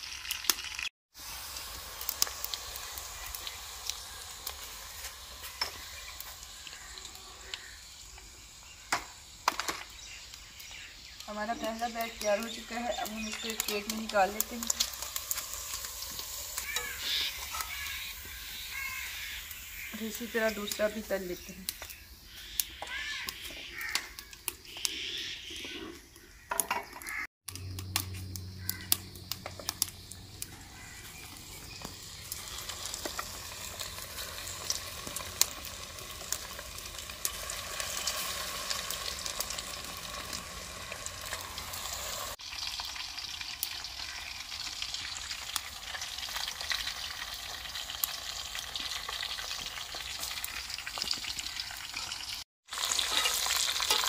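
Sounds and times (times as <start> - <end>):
chicken deep-frying in oil: 0.0 - 54.0
crackles and pops of frying: 0.0 - 54.0.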